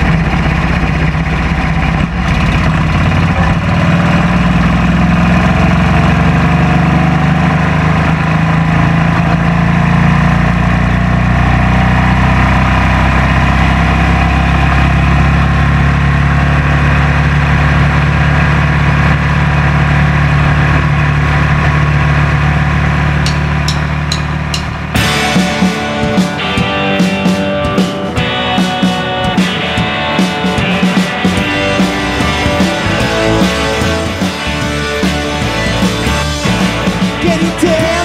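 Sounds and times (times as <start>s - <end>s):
race car engine running: 0.0s - 38.0s.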